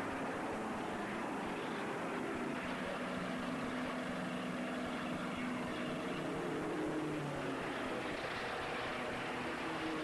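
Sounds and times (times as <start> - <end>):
racing car engines droning: 0.0 - 10.0.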